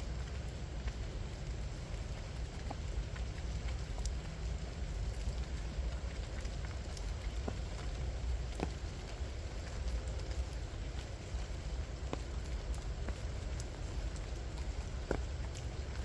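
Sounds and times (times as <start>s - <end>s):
low rain rumble: 0.0s - 16.0s
raindrops ticking: 0.0s - 16.0s.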